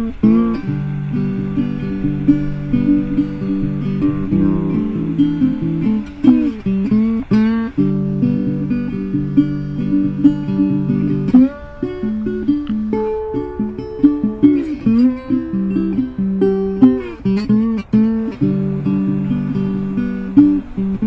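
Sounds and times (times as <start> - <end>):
acoustic guitar plucked and strummed: 0.0 - 21.0.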